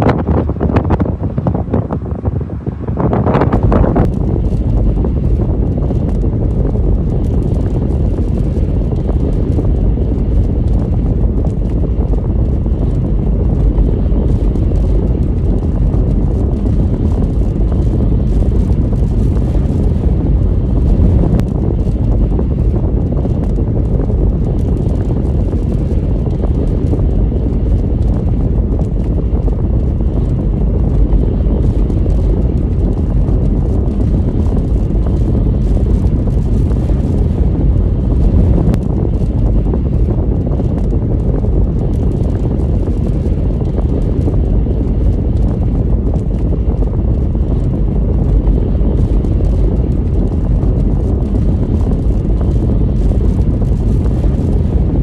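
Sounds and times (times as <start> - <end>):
wind blowing across microphone: 0.0 - 55.0.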